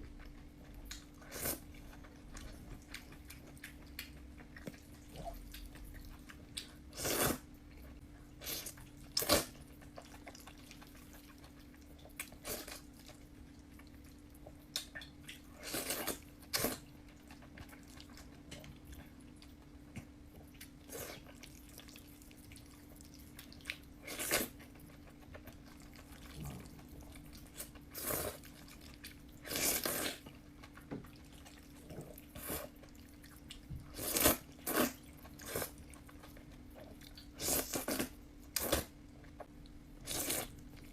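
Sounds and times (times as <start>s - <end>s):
faint low hum: 0.0s - 40.9s
person chewing and slurping noodles: 0.3s - 14.6s, 15.2s - 38.9s, 40.0s - 40.9s.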